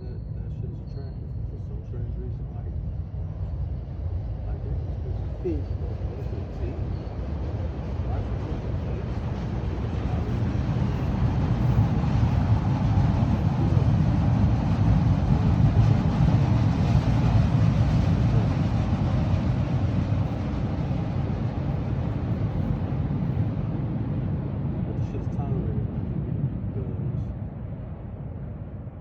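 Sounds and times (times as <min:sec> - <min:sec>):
steady low rumbling noise: 0:00.0 - 0:29.0.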